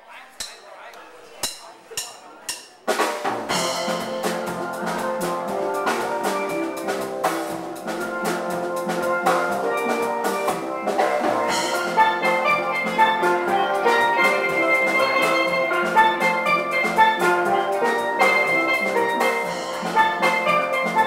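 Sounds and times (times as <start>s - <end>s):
drum kit beat: 0.3s - 0.7s, 1.4s - 21.0s
steel pans playing melody: 1.4s - 21.0s.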